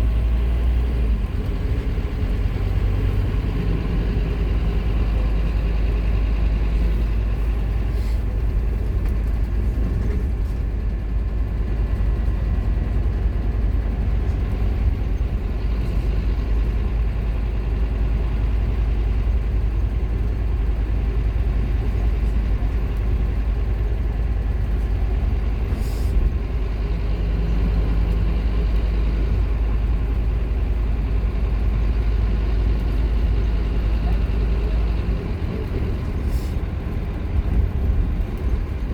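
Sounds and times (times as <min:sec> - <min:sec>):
bus diesel engine rumbling: 0:00.0 - 0:38.9.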